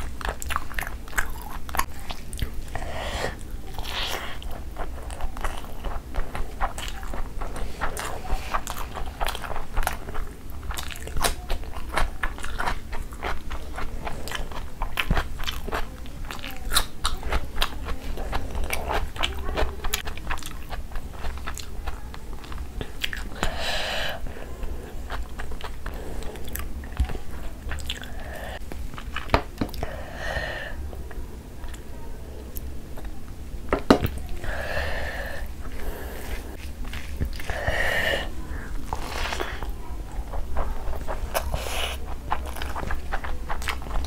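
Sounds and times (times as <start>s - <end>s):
crunchy cucumber chewing: 0.0s - 29.9s, 35.4s - 44.0s.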